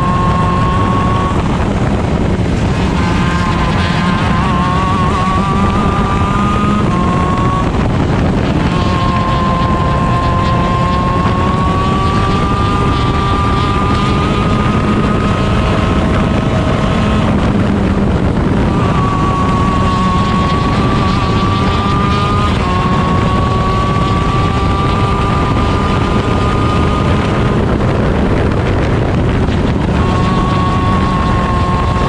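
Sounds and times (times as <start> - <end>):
kart engine at high revs: 0.0 - 32.0
wind buffeting microphone: 0.0 - 32.0.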